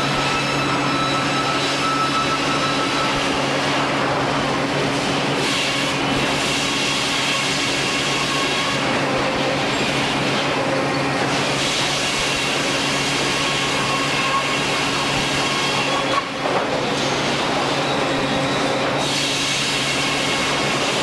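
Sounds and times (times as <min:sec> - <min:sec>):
sawmill machinery noise: 0:00.0 - 0:21.0.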